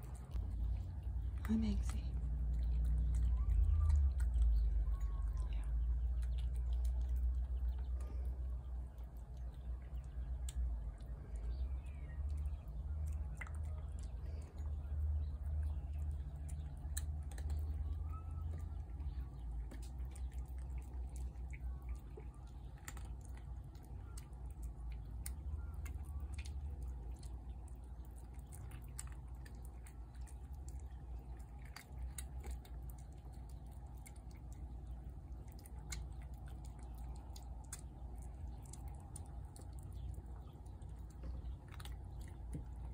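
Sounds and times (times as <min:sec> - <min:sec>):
cats chewing clicks: 0:00.0 - 0:42.9
steady low rumble: 0:00.0 - 0:42.9.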